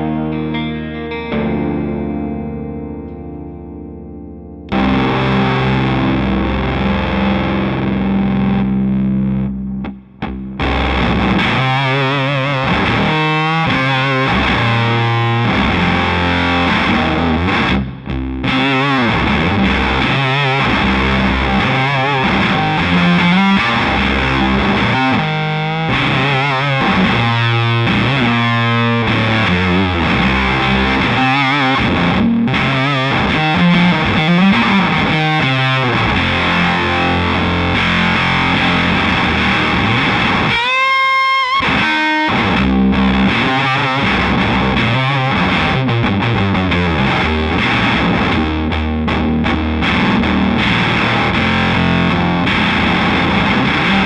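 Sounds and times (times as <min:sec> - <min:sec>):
distorted electric guitar riffing: 0:00.0 - 0:54.0.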